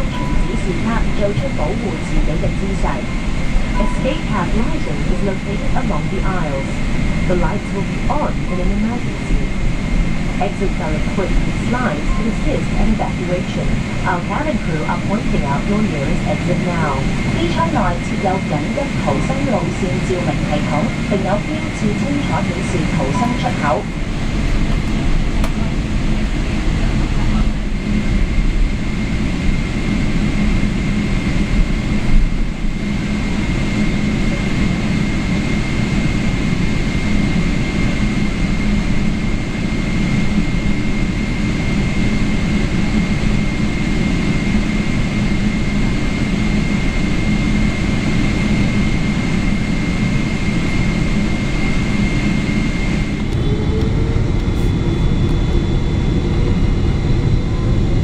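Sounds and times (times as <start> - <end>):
jet cabin noise: 0.0 - 58.0
jet engines spooling up: 0.0 - 58.0
thin steady whine: 0.0 - 58.0.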